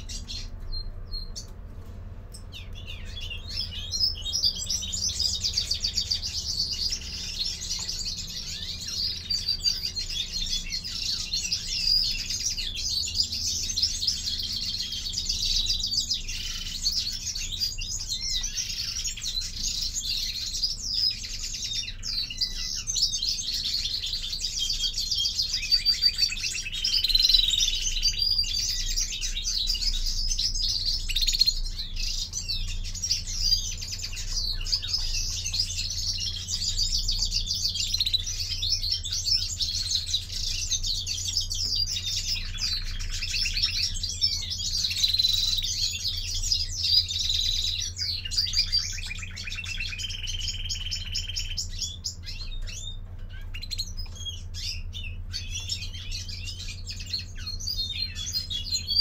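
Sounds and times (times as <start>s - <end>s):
finches twittering: 2.3s - 59.0s.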